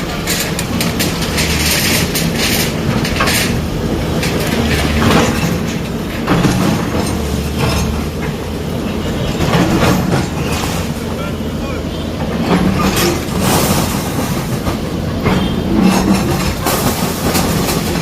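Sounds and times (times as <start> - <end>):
metallic clanks and knocks: 0.0 - 11.2, 12.2 - 18.0
demolition machinery engine hum: 0.0 - 18.0.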